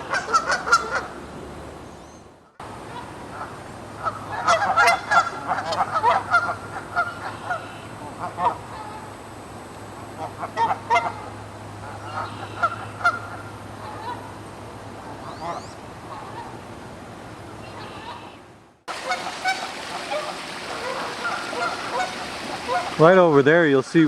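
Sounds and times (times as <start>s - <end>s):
geese honking: 0.0s - 1.2s, 2.8s - 9.2s, 10.2s - 14.4s, 15.0s - 16.6s, 17.5s - 23.4s
steady low hum: 0.0s - 23.1s.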